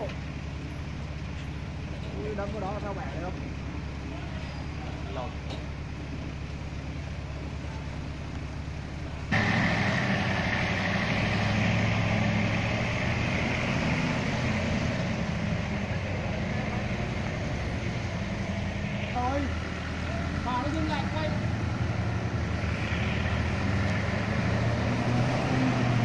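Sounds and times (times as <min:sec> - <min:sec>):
dump truck diesel engine: 0:00.0 - 0:26.0.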